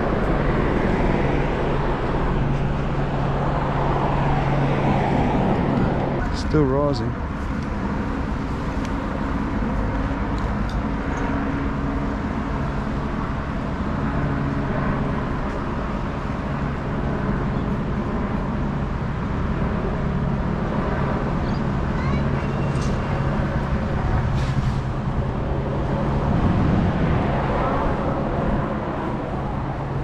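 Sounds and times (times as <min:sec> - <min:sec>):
motor engines droning: 0:00.0 - 0:30.0
outdoor noise: 0:00.0 - 0:30.0.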